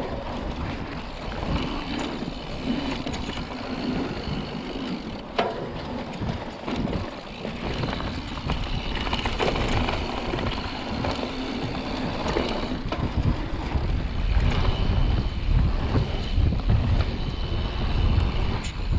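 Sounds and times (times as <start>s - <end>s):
bike rattling with small clicks: 0.0s - 18.9s
wind rumbling on microphone: 0.0s - 18.9s.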